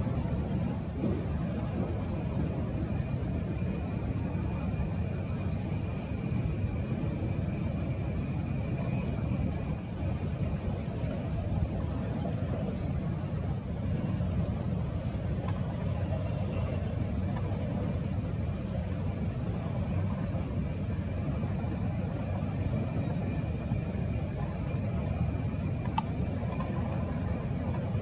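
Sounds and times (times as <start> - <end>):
faint high whine: 0.0 - 28.0
jet engines rumbling: 0.0 - 28.0.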